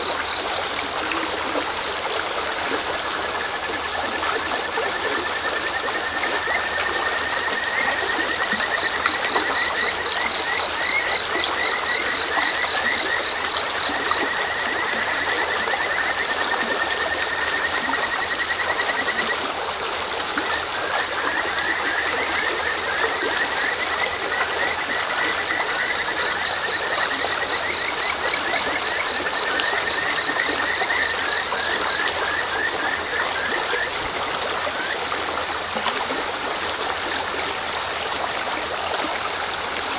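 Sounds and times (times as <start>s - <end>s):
frog calling in whistled notes: 0.0s - 19.6s, 20.3s - 36.3s
stream babbling: 0.0s - 39.9s.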